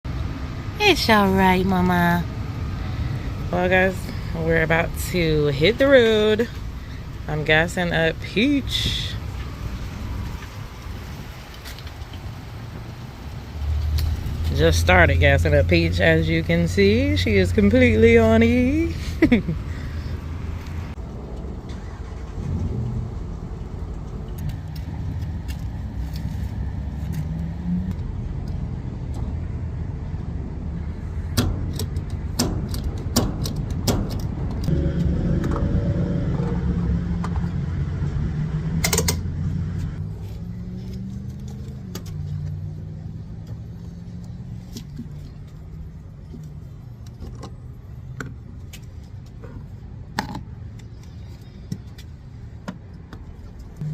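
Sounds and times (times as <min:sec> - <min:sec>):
vehicle engine running: 0:00.1 - 0:47.0.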